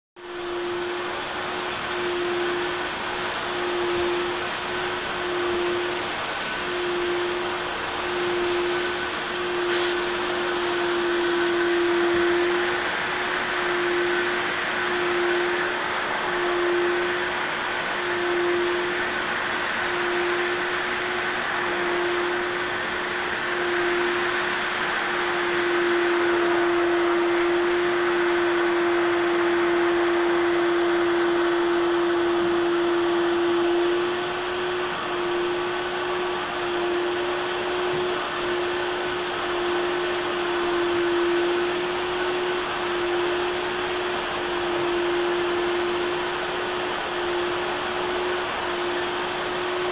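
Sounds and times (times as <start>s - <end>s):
carpet cleaning machine drone: 0.2s - 49.9s.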